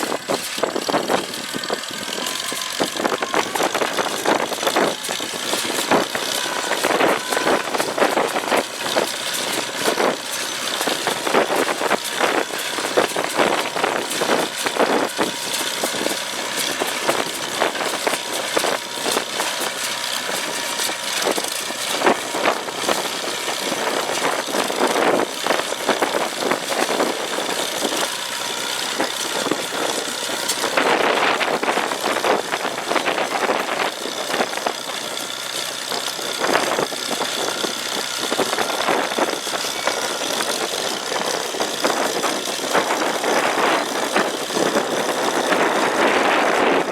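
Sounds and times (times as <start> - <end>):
baler engine running: 0.0 - 46.9.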